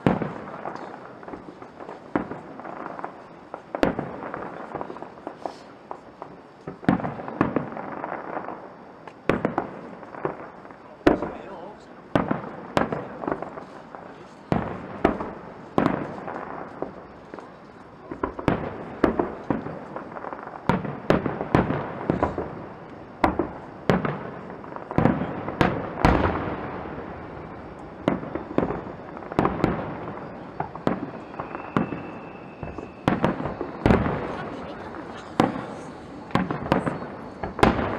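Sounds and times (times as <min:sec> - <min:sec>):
fireworks crackling: 0:00.0 - 0:37.9
fireworks exploding: 0:00.0 - 0:37.9.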